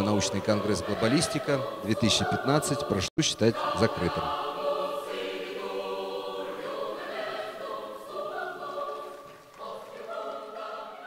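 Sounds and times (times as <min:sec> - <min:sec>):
choir singing sustained chords: 0:00.0 - 0:11.0.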